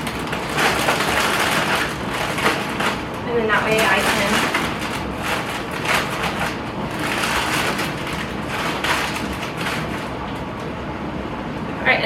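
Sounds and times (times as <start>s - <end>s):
plastic bags crinkling: 0.0s - 10.8s.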